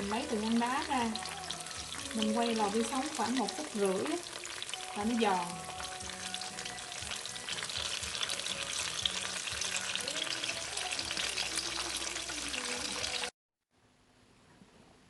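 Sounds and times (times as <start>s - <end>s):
food deep-frying in oil: 0.0s - 13.3s.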